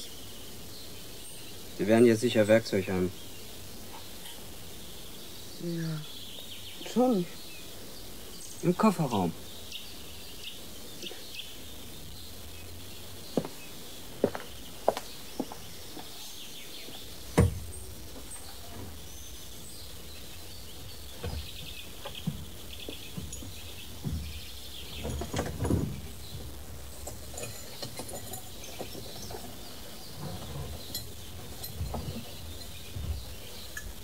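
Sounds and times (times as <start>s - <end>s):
birds chirping: 0.0s - 34.0s
insects: 0.0s - 34.0s.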